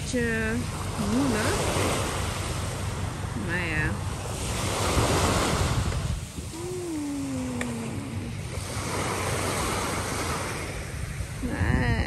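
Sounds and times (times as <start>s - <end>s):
small waves breaking on sand: 0.0s - 12.0s
wind rumbling on microphone: 0.0s - 12.0s.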